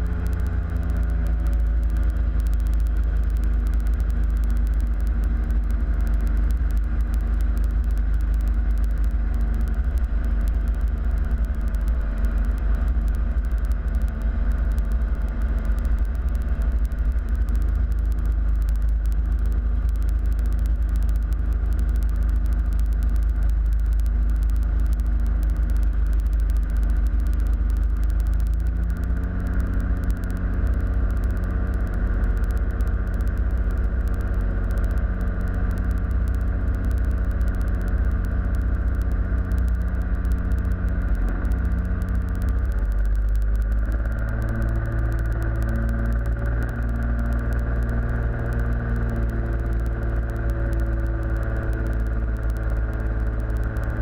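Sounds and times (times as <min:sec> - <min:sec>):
propeller engine droning: 0:00.0 - 0:54.0.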